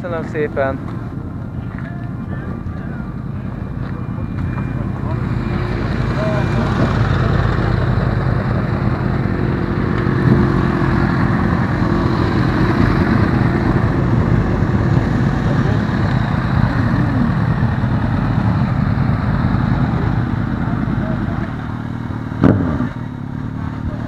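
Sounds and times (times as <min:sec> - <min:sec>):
motorcycle engines running: 0:00.0 - 0:24.0.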